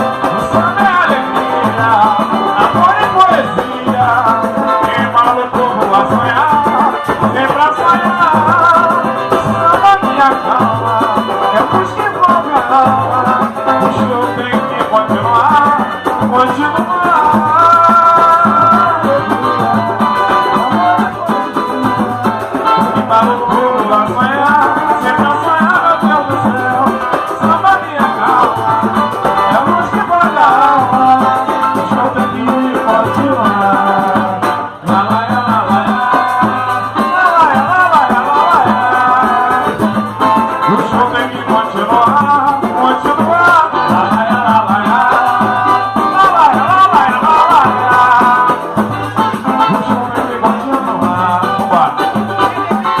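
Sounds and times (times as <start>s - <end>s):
percussion steady beat: 0.0s - 53.0s
samba band playing: 0.0s - 53.0s.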